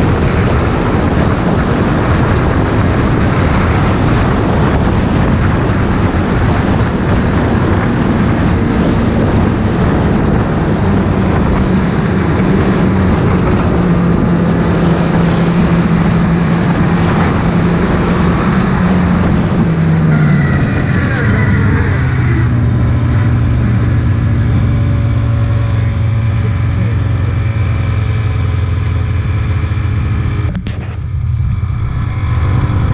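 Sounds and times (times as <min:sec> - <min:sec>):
loud rushing noise: 0:00.0 - 0:32.9
snowmobile engine drone: 0:00.0 - 0:32.9.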